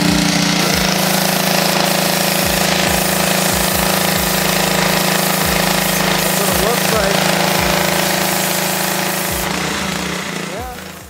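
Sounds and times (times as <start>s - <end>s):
pressure washer engine droning: 0.0s - 11.0s.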